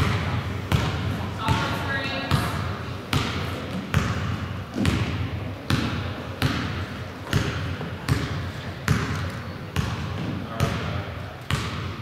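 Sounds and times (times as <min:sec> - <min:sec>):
basketball bouncing on wooden floor: 0:00.0 - 0:01.7, 0:02.3 - 0:09.2, 0:09.8 - 0:10.9, 0:11.5 - 0:11.9.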